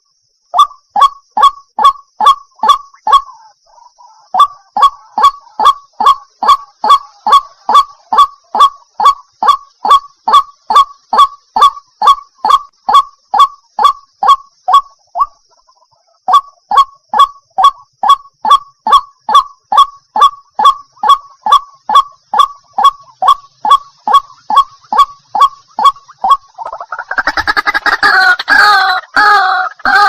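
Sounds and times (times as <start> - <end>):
waterhen harsh calls: 0.6 - 15.4, 16.3 - 30.0.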